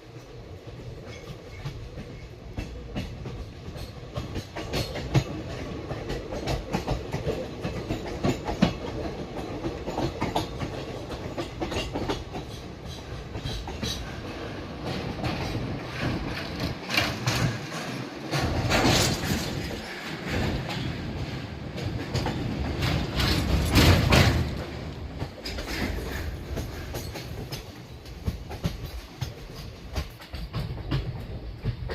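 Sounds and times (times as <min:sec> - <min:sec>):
train rumbling on track: 0:00.0 - 0:31.9
wheels clicking and knocking: 0:01.0 - 0:31.9.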